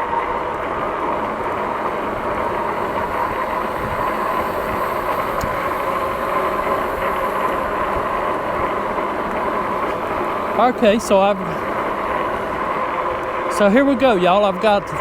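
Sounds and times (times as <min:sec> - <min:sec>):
tyre and wind noise: 0:00.0 - 0:13.6
faint motor whine: 0:00.0 - 0:15.0.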